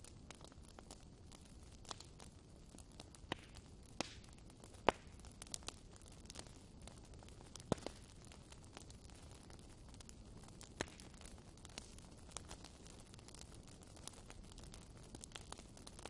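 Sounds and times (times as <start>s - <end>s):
fire crackling and popping: 0.0s - 16.0s
wood fire hissing: 0.0s - 16.0s.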